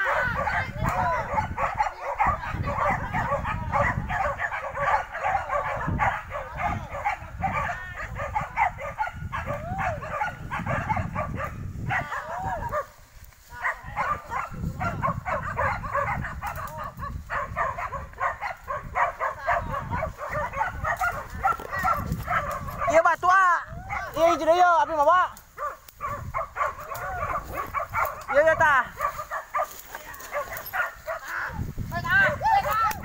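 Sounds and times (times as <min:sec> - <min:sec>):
dogs barking and yelping: 0:00.0 - 0:13.0, 0:13.6 - 0:24.2, 0:25.5 - 0:33.0.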